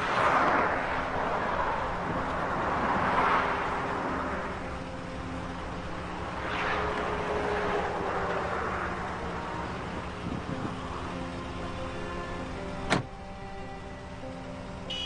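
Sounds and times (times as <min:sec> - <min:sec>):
passing vehicle rushing: 0:00.0 - 0:13.2
car road and engine noise: 0:00.0 - 0:15.0.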